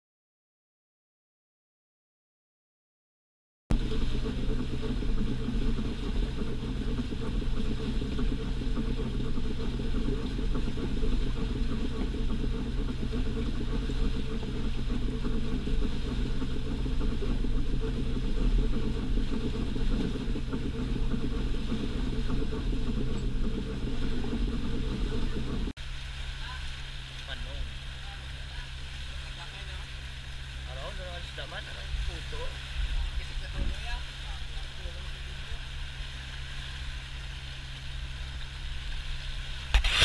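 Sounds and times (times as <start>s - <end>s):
boat engine droning: 3.7s - 40.0s.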